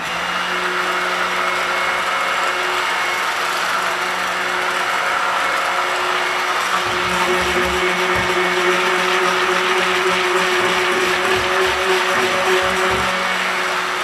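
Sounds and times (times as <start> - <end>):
stick blender motor humming: 0.0 - 14.0.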